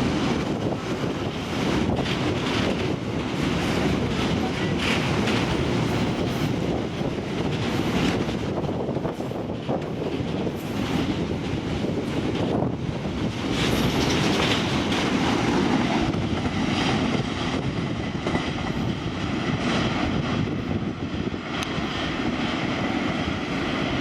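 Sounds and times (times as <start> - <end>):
wheels clicking over rail joints: 0.0 - 22.2
freight train rumbling past: 0.0 - 24.0.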